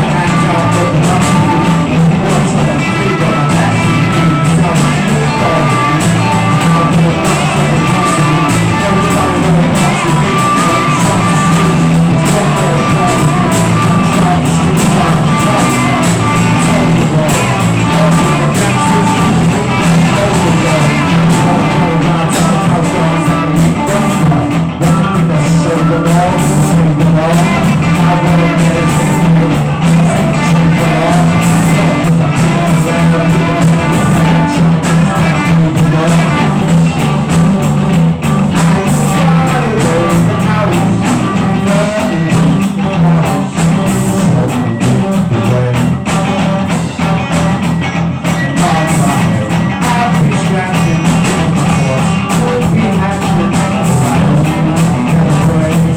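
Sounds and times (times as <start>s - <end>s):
person singing: 0.0s - 55.9s
rock band jamming: 0.0s - 55.9s.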